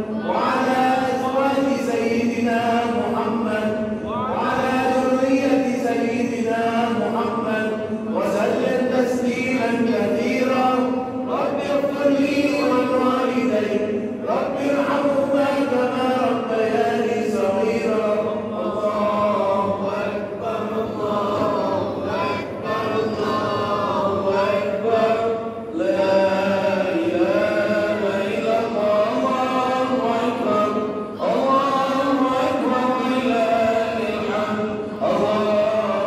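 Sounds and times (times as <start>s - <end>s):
man chanting religious song: 0.0s - 36.0s.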